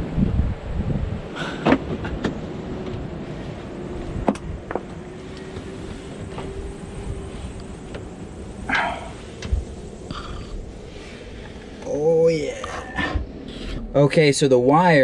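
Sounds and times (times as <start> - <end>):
low rumble: 2.0 - 15.0.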